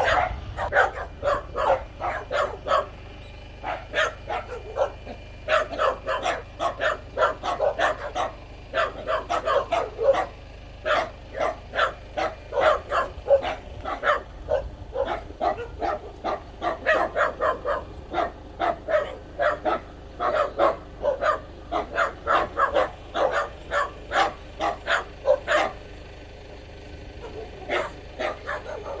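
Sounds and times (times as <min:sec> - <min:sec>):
dog barking: 0:00.0 - 0:26.2, 0:27.1 - 0:29.0.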